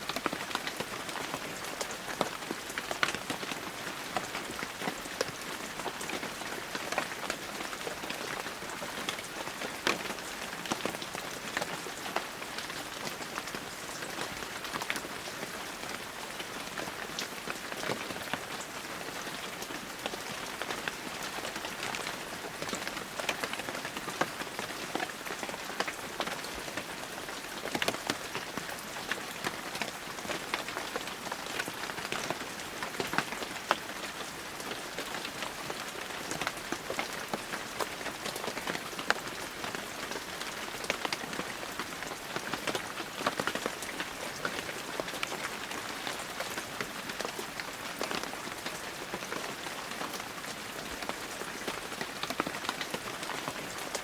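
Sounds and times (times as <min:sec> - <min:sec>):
heavy rain falling: 0:00.0 - 0:54.0
raindrops pattering on surfaces: 0:00.0 - 0:54.0.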